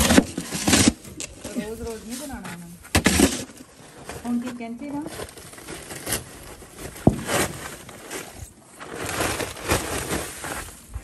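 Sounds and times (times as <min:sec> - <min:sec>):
snow shifting: 0:00.0 - 0:02.5, 0:03.1 - 0:11.0
plastic tarp rustling: 0:00.0 - 0:11.0.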